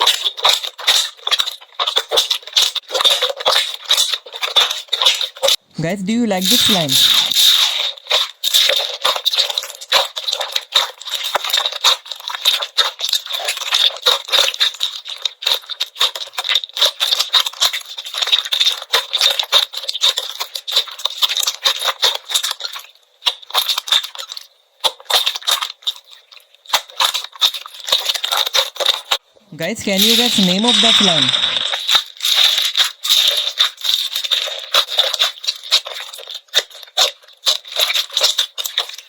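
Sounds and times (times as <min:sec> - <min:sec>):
slime crackling and popping: 0:00.0 - 0:39.0.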